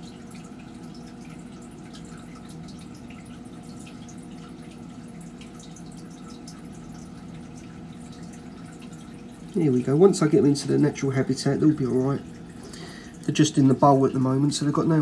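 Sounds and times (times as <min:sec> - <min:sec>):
steady low hum: 0:00.0 - 0:15.0
water dripping: 0:00.0 - 0:15.0.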